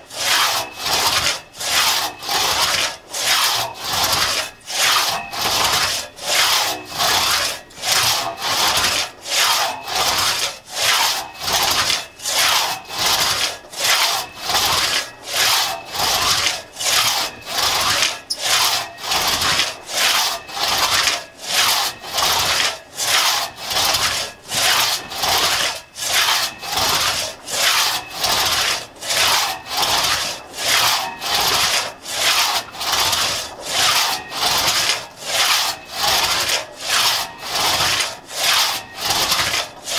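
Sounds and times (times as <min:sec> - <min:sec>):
hand saw rasping through wood: 0:00.0 - 0:39.9.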